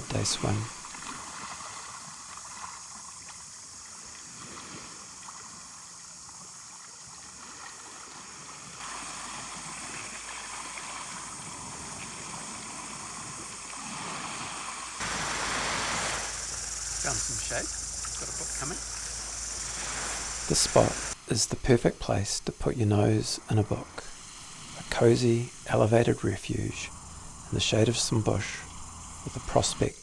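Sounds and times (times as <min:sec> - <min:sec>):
seawater lapping and gurgling: 0:00.0 - 0:21.2, 0:23.4 - 0:30.0.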